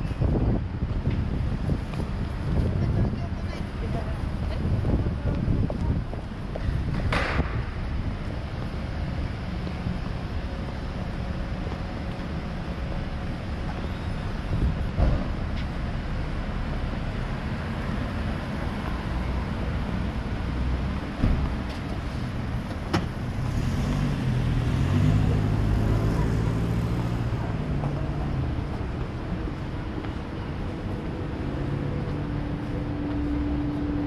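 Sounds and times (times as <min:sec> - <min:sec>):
cars passing on street: 0:00.0 - 0:34.0
vehicle engine: 0:00.0 - 0:34.0.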